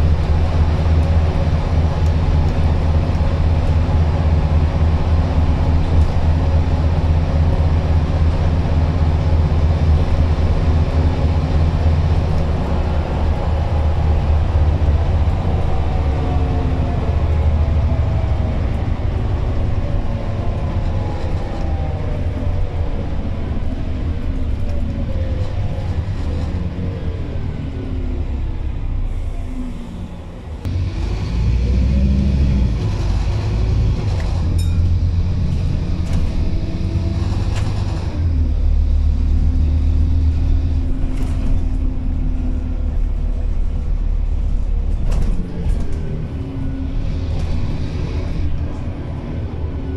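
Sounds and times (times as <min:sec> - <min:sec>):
bus engine droning: 0:00.0 - 0:49.9
deep road rumble: 0:00.0 - 0:49.9.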